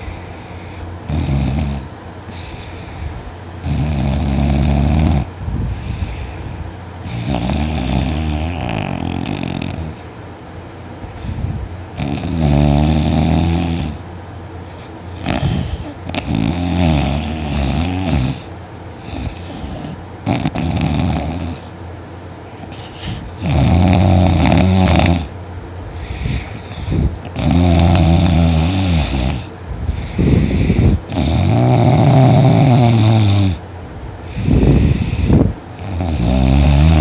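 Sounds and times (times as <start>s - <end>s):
person snoring loudly: 0.0s - 2.8s, 3.6s - 6.2s, 7.0s - 10.0s, 12.0s - 14.0s, 15.1s - 21.7s, 22.6s - 25.3s, 26.0s - 33.6s, 34.3s - 37.0s.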